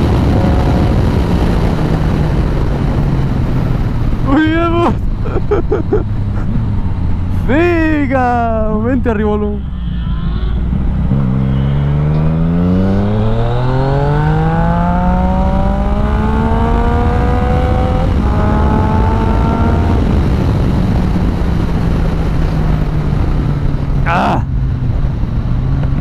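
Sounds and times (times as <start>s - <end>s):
motorcycle engine accelerating: 0.0s - 8.0s, 10.6s - 26.0s
wind rushing over microphone: 0.0s - 9.6s, 10.3s - 26.0s.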